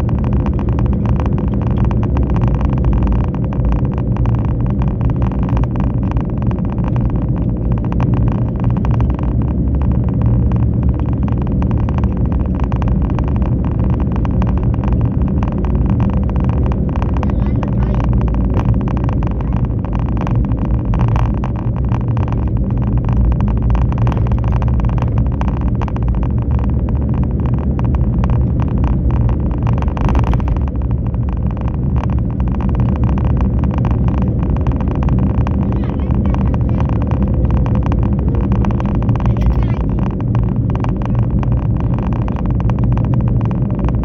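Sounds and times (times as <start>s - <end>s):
road and wind noise: 0.0s - 44.0s
vehicle engine cruising: 0.0s - 44.0s.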